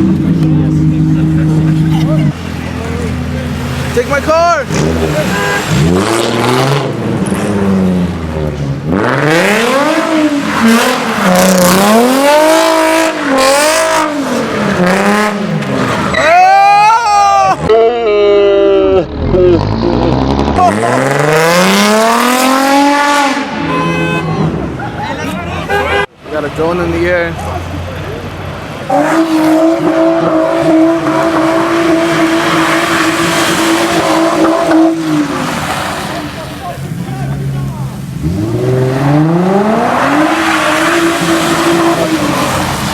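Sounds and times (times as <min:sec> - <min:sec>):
car engine revving hard: 0:00.0 - 0:16.2, 0:19.1 - 0:23.9, 0:28.7 - 0:42.9.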